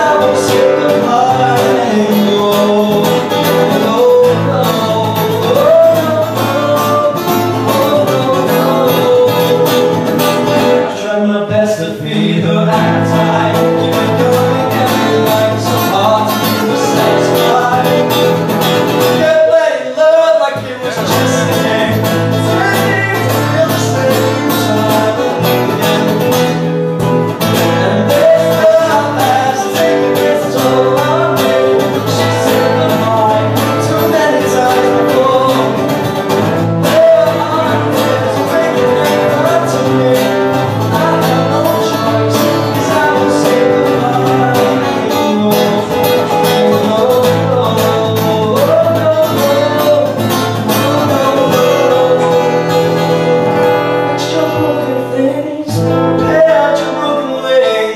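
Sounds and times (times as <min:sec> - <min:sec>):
acoustic guitars strummed: 0:00.0 - 0:57.9
man singing: 0:00.0 - 0:57.9.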